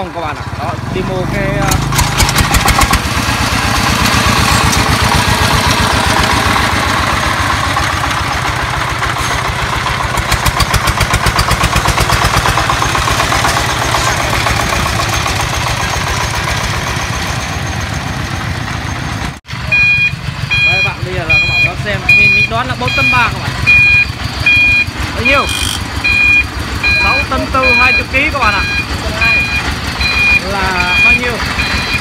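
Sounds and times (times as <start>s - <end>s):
tractor diesel engine chugging: 0.0s - 32.0s.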